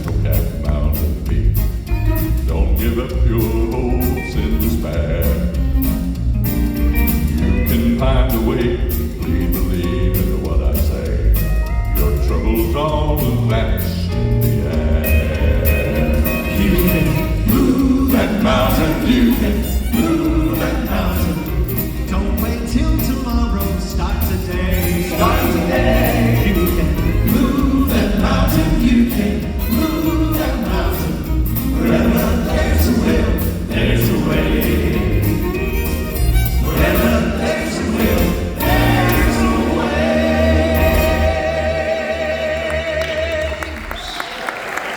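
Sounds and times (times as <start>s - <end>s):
gospel group singing in harmony: 0.0s - 11.3s, 12.0s - 44.1s
accompaniment with bass and beat: 0.0s - 42.1s.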